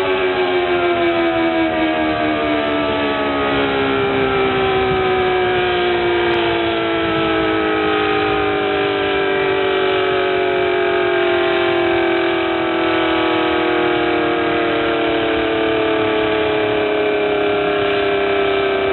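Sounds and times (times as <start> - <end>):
warning siren winding down: 0.0 - 18.9.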